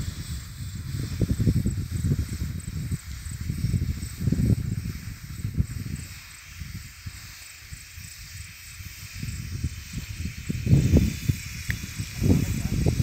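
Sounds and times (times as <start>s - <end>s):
sprayer jet hissing: 0.0s - 13.0s
wind buffeting microphone: 0.0s - 13.0s.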